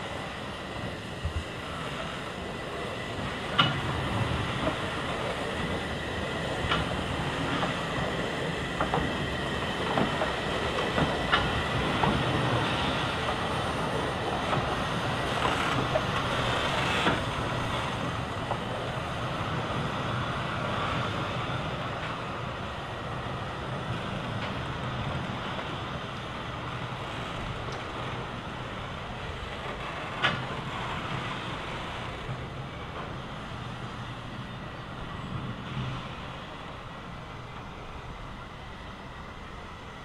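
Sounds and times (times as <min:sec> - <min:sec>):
steam locomotive moving slowly: 0:00.0 - 0:40.0.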